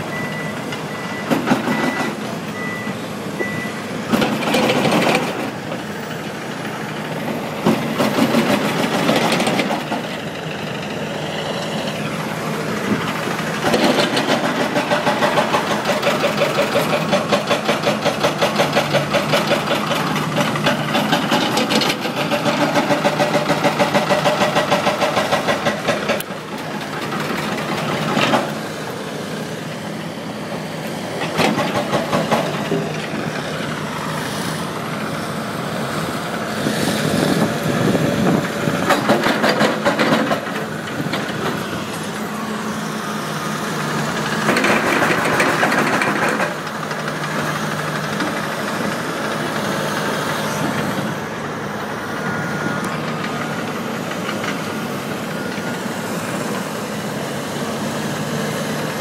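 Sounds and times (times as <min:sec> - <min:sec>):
excavator engines running: 0:00.0 - 0:59.0.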